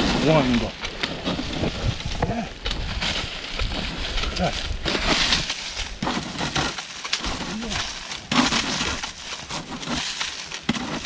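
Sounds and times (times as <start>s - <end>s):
hand tool scraping grass and soil: 0.0s - 11.0s.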